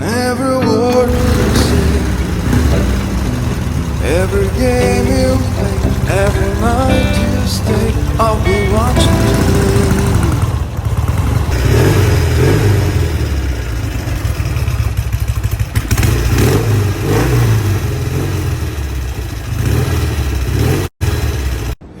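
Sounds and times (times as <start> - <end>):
motorcycle engine revving: 0.9 - 22.0.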